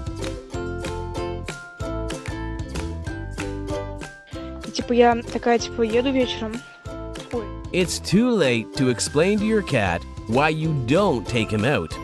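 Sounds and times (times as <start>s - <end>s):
music with sharp notes: 0.0s - 12.0s.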